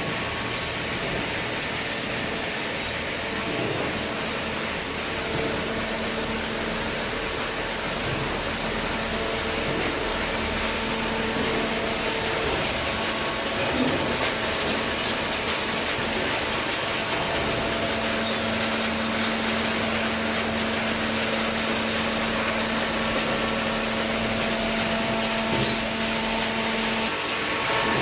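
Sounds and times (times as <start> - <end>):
baler machine running: 0.0 - 28.0.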